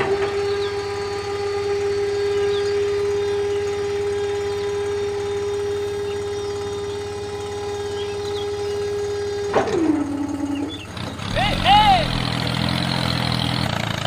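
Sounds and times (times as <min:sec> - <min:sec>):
small electric motor whining: 0:00.0 - 0:11.4.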